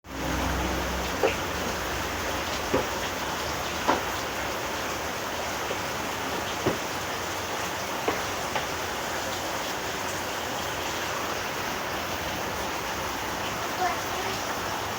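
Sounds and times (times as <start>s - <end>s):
steady rain falling: 0.1s - 14.9s.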